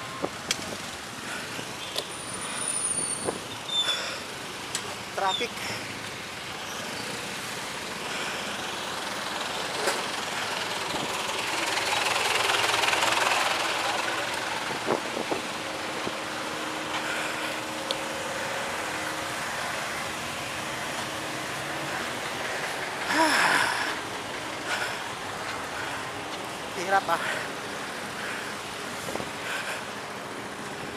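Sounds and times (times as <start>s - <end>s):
car and motorcycle engines idling: 0.0s - 30.9s.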